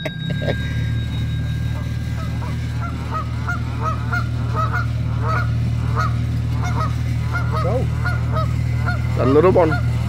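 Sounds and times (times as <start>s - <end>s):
boat engine drone: 0.0s - 10.0s
geese honking: 1.7s - 10.0s.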